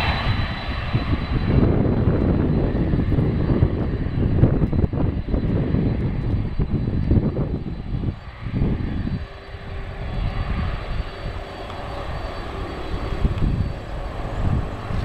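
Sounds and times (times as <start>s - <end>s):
jet engines rumbling: 0.0s - 15.0s
steady engine tone: 0.0s - 15.0s
wind buffeting microphone: 0.0s - 15.0s.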